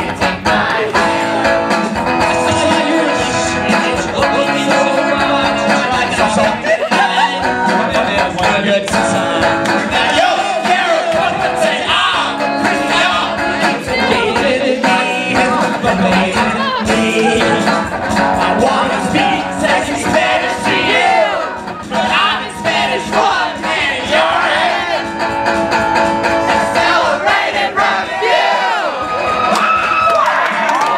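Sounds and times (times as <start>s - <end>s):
men singing loudly: 0.0s - 25.2s, 26.3s - 29.1s
strummed electric guitar: 0.0s - 28.2s.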